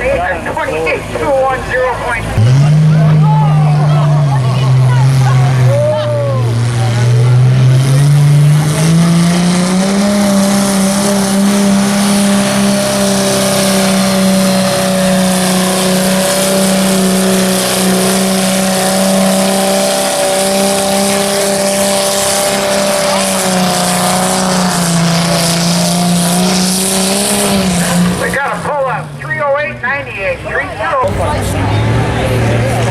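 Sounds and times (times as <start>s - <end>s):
tractor engine running under load: 2.3s - 29.8s.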